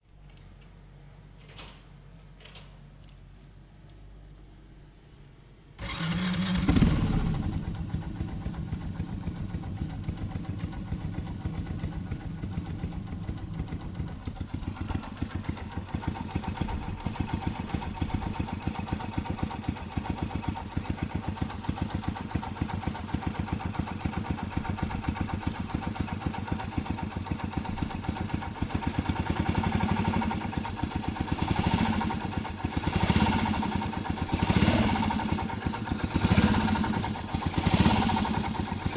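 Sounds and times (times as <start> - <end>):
engine ticking clatter: 5.8 - 38.9
small engine revving and idling: 5.8 - 38.9.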